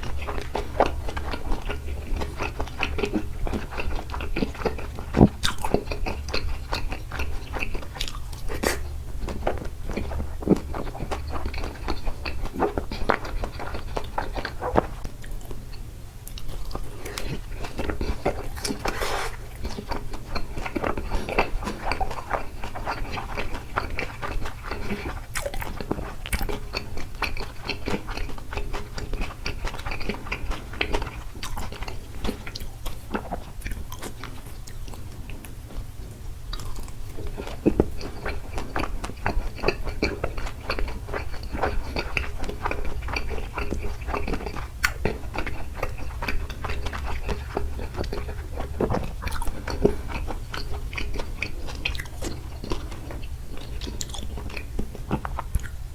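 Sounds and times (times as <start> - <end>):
close chewing and biting: 0.0 - 55.9.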